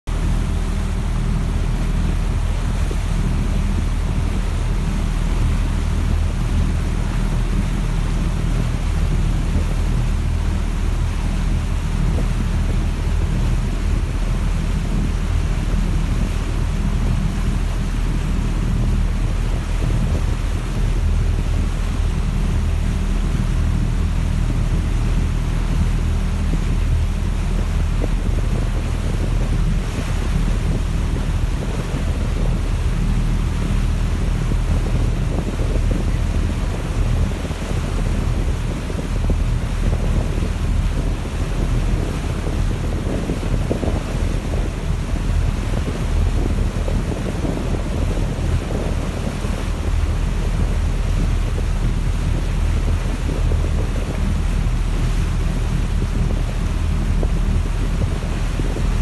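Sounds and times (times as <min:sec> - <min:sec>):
boat engine humming: 0:00.0 - 0:59.0
churning wake rushing: 0:00.0 - 0:59.0.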